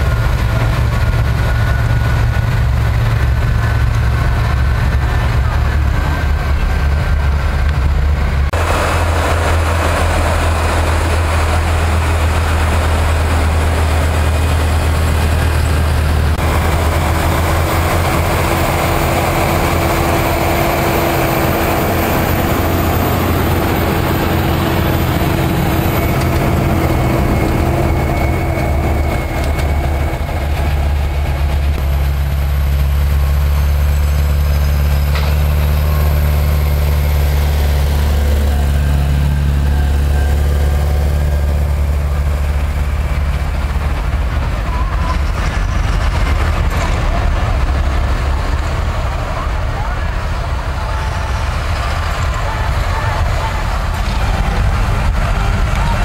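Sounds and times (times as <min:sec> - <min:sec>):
tractor diesel engines running: 0:00.0 - 0:56.0.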